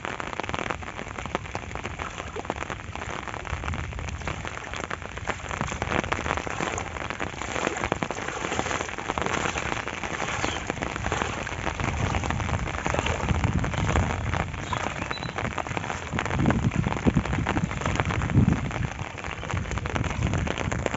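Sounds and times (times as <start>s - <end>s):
steady rain: 0.0s - 20.9s
low rumbles: 1.5s - 20.9s.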